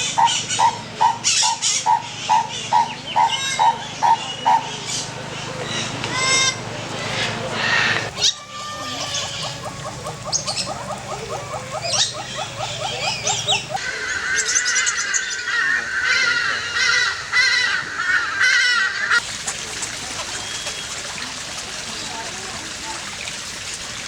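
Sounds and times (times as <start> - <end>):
birds calling: 0.0 - 23.2.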